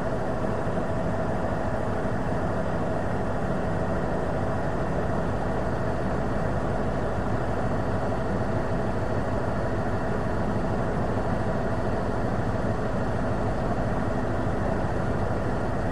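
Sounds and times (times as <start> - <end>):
helicopter engine and rotor: 0.0 - 15.9.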